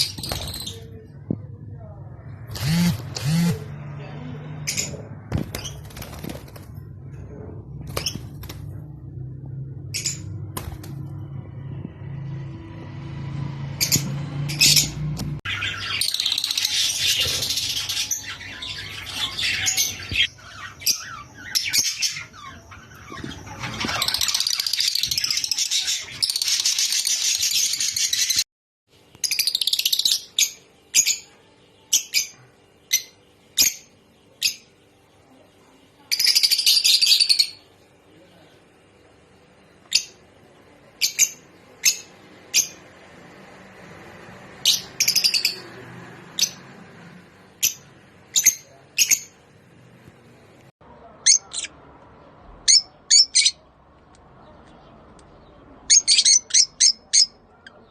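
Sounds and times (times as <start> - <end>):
birds chattering and chirping: 0.0 - 9.0, 13.8 - 28.4, 29.0 - 57.9.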